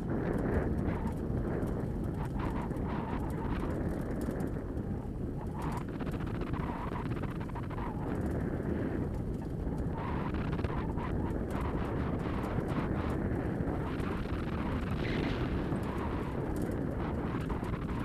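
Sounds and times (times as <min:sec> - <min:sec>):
low rumbling wind and trail noise: 0:00.0 - 0:18.0.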